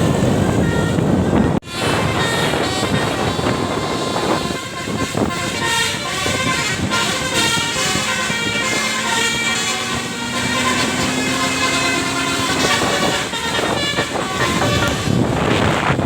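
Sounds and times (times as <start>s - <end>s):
multi-tone bus air horns: 0.0s - 16.0s
steady low horn tone: 0.0s - 16.0s.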